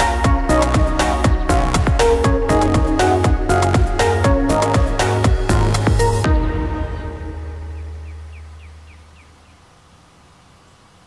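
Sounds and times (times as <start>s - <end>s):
electronic music with bass drops: 0.0s - 9.2s.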